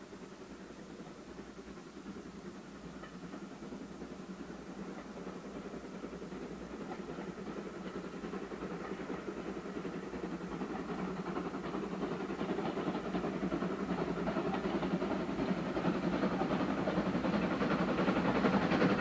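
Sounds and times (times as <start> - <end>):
steam engine exhaust beats: 0.0 - 19.0
train wheels on rails: 0.0 - 19.0.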